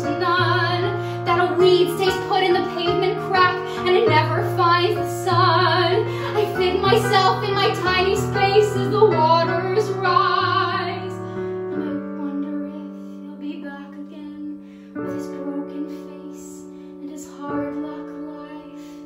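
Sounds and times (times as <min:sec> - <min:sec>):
piano accompaniment: 0:00.0 - 0:19.0
woman singing: 0:00.0 - 0:19.0.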